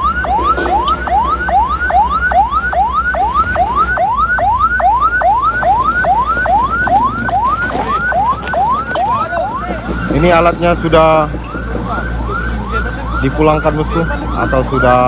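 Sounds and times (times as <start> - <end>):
electronic siren yelping: 0.0 - 15.0.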